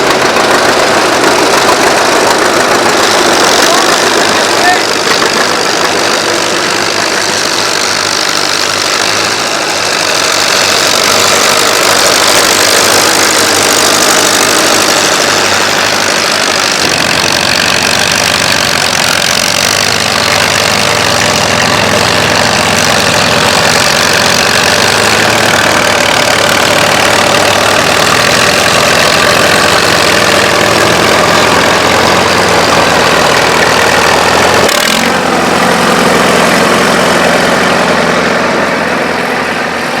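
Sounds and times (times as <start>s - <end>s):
tractor engines running: 0.0s - 40.0s.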